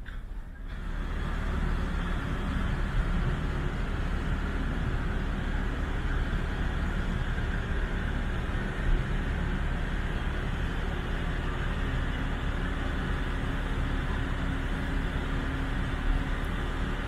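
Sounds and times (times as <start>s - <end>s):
machinery drone and rumble: 0.0s - 17.0s
steady hum: 0.0s - 17.0s.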